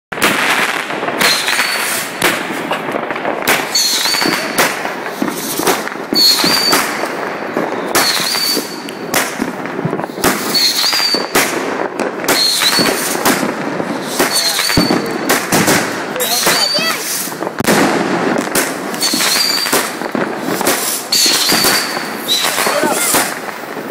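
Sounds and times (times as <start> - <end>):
firework bangs: 0.1 - 23.9
firework crackle: 0.1 - 23.9.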